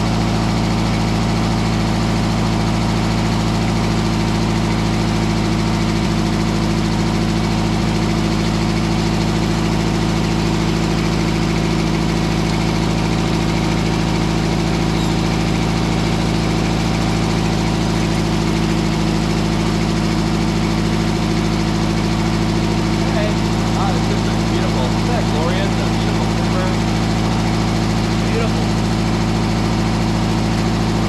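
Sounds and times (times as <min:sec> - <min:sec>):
sawmill engine humming: 0:00.0 - 0:31.0.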